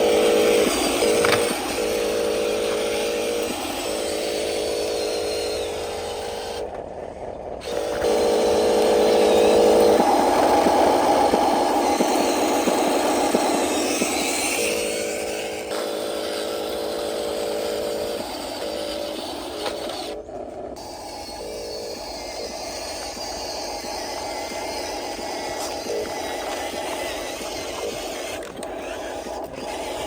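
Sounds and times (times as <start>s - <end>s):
rough gear grinding: 0.0s - 30.0s
small electric motors whirring: 0.0s - 30.0s.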